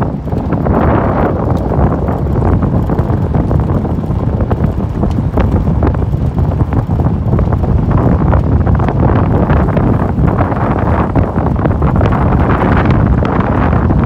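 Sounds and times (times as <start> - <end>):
sharp pops and crackles: 0.0 - 13.4
vehicle driving on road: 0.0 - 14.0
wind buffeting microphone: 0.0 - 14.0.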